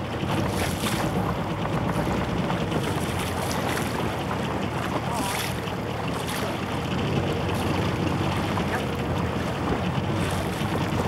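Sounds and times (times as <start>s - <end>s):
ship engine rumbling: 0.0s - 11.0s.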